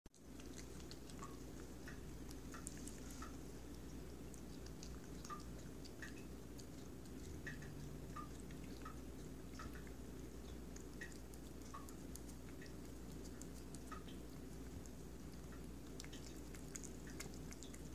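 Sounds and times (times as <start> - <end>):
cat chewing: 0.1 - 17.9.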